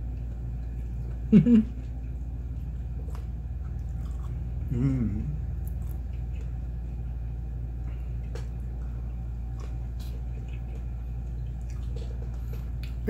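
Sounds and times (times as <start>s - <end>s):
soft chewing clicks: 0.0s - 13.0s
steady low hum: 0.0s - 13.0s.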